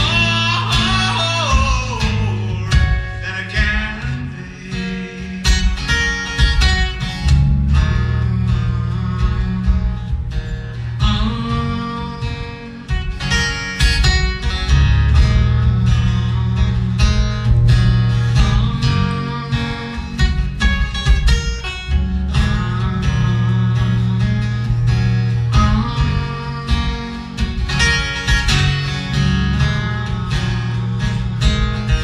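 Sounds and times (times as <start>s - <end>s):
solo acoustic guitar: 0.0s - 32.0s.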